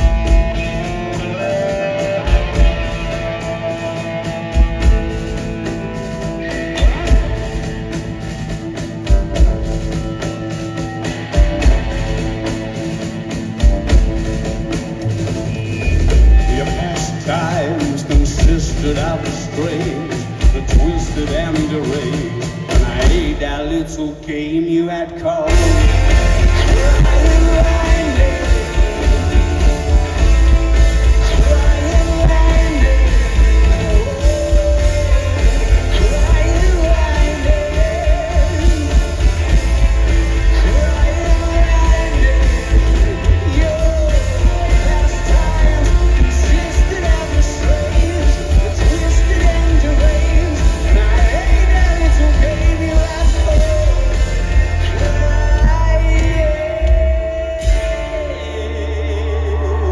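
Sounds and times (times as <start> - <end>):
heavy bass and drums: 0.0 - 24.0, 25.5 - 59.9
rock band playing live: 0.0 - 24.2, 25.4 - 59.9.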